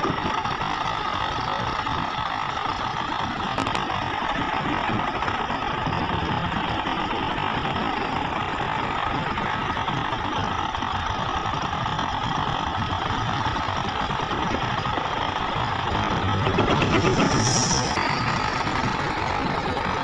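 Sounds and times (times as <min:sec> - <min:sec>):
heavy diesel machinery droning: 0:00.0 - 0:20.0.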